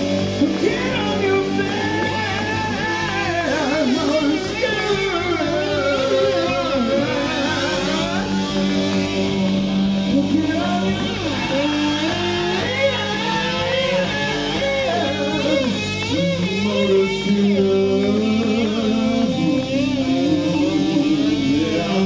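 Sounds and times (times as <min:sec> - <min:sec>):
electric guitar lead: 0:00.0 - 0:22.0
rock band playing: 0:00.0 - 0:22.0.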